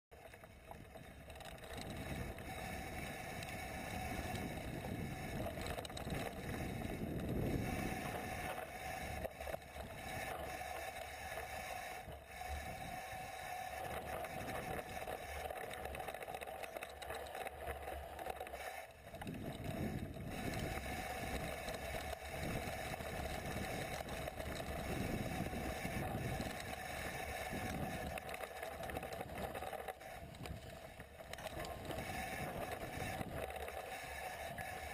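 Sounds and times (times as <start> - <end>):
bike rattling over bumps: 0.1 - 34.9
bike tyres rolling on dirt: 0.1 - 34.9.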